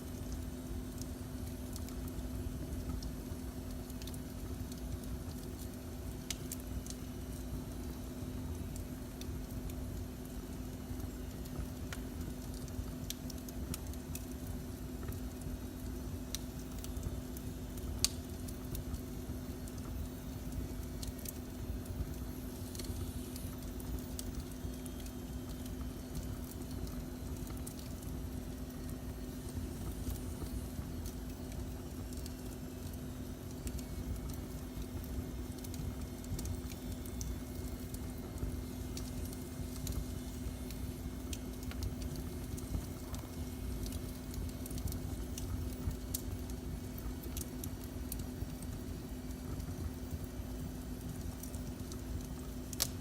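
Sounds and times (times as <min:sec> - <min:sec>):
fire crackling and popping: 0:00.0 - 0:53.0
low rumble and hum: 0:00.0 - 0:53.0.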